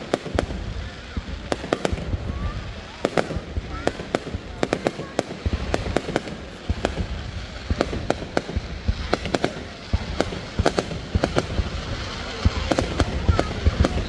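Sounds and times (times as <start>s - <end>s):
distant firework rumble: 0.0s - 14.0s
firework bangs and cracks: 0.0s - 14.0s.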